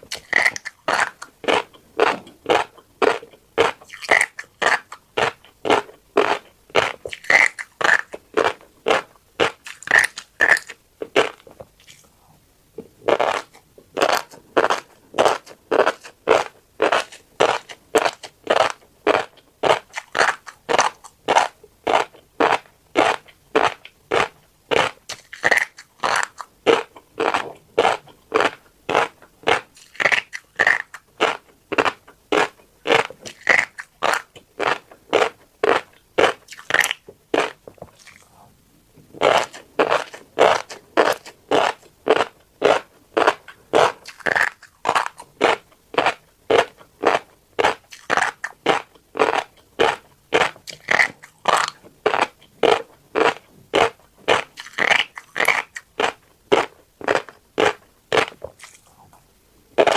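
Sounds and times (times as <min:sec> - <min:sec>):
crunchy chewing of seeds: 0:00.0 - 0:38.5, 0:39.1 - 0:59.9.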